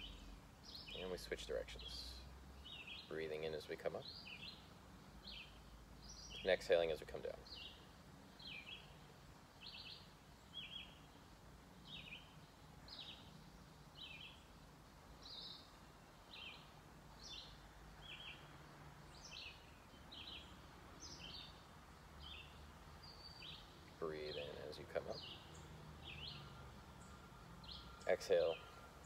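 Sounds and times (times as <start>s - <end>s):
bird chirping: 0.0s - 29.0s
outdoor background hiss: 0.0s - 29.0s.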